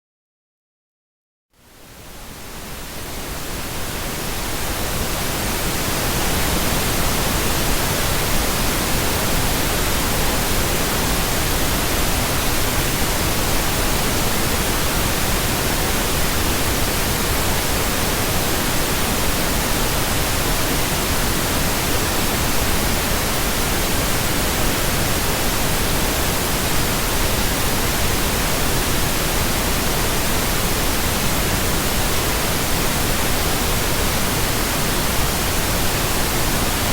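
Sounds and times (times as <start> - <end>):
pink noise hiss: 1.6 - 36.9.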